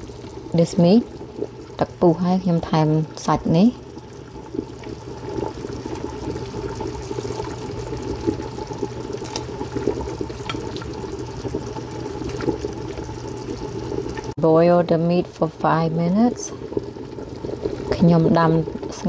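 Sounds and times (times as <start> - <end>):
water boiling in a pot: 0.0 - 19.0.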